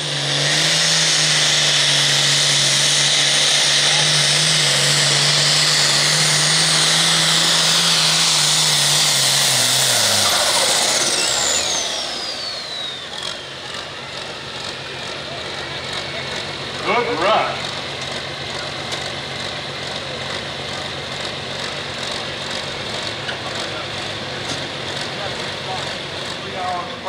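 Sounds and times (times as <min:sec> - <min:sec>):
diesel tractor engine under load: 0:00.0 - 0:27.0
turbocharger whine: 0:00.0 - 0:27.0.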